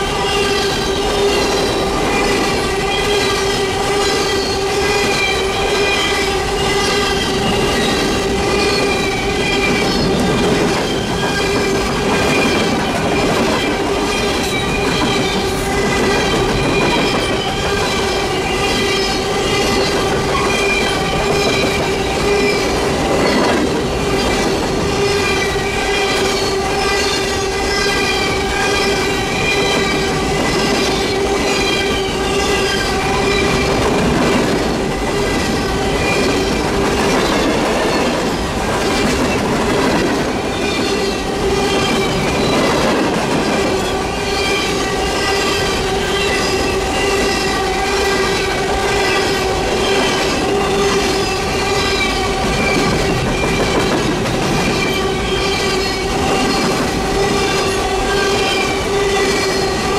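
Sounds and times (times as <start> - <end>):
steel wheels squealing on rail: 0.0 - 59.9.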